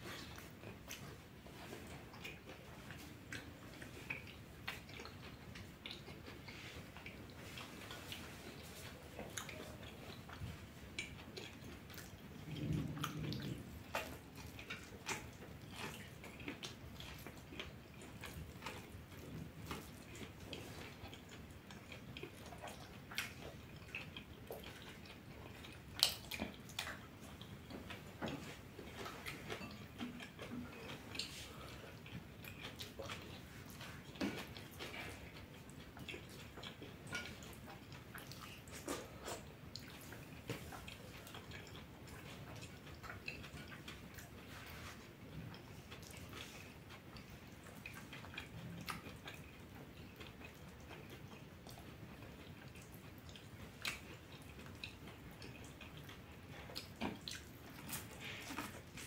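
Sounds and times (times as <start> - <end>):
man chewing wetly: 0.0 - 59.0.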